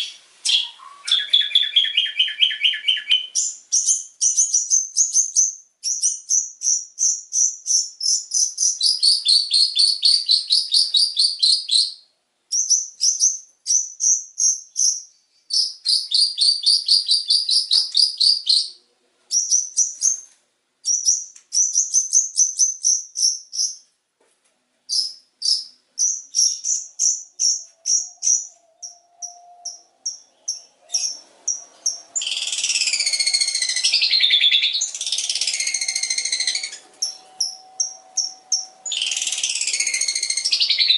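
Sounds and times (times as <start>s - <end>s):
bird chattering song: 0.0s - 23.9s, 24.9s - 40.9s.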